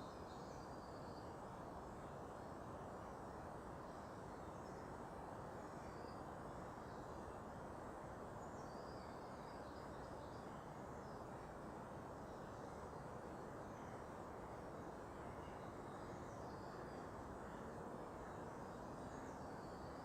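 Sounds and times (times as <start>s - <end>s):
faint bird chirps: 0.0s - 2.2s, 3.8s - 7.5s, 8.4s - 11.6s, 12.2s - 20.0s.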